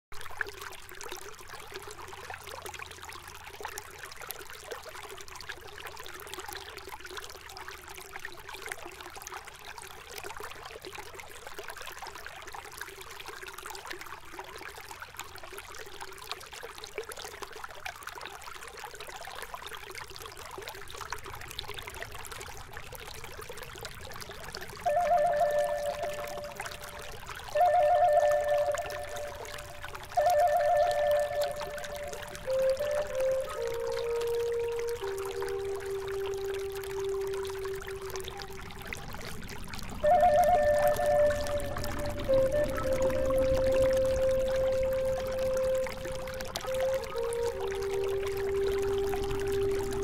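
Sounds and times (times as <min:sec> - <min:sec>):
river water flowing over gravel: 0:00.1 - 0:50.0.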